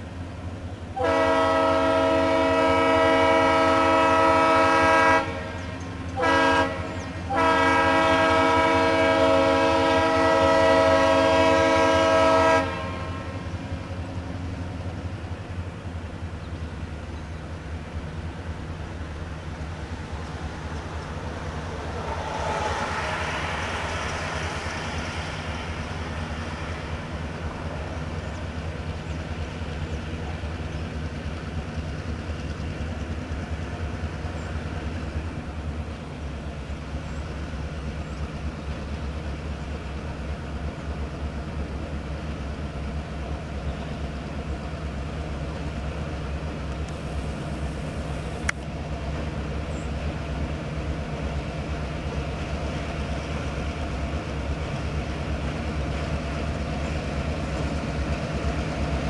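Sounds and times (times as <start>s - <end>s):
diesel locomotives droning: 0.0s - 59.0s.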